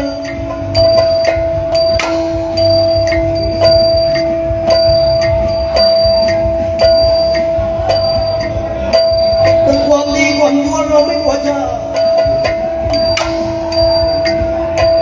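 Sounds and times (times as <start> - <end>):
low drum beat: 0.0 - 15.0.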